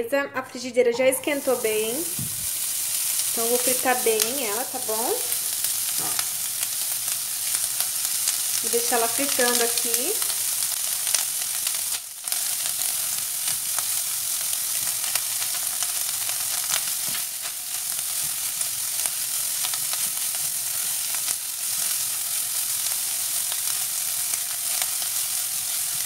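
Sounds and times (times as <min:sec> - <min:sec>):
sausage sizzling in frying pan: 0:01.1 - 0:26.0.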